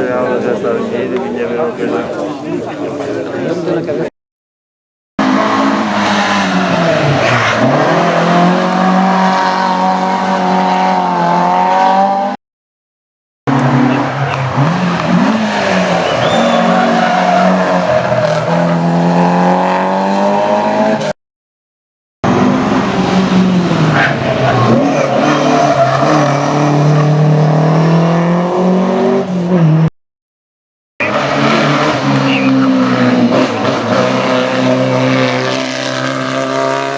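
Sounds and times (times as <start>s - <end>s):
rally car engines revving: 0.0s - 4.1s, 5.2s - 12.4s, 13.5s - 21.2s, 22.3s - 29.9s, 31.0s - 36.9s.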